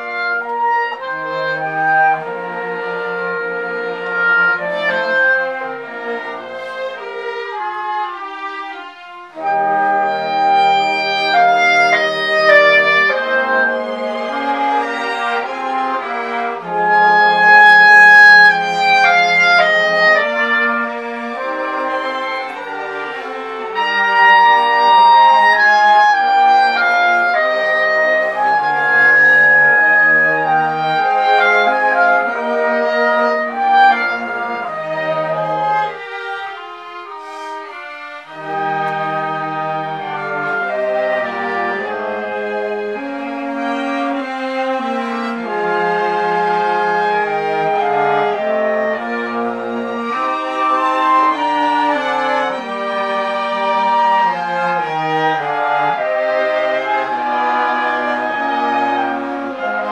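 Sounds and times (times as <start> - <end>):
clarinet melody: 0.0 - 59.9
string ensemble: 0.0 - 59.9.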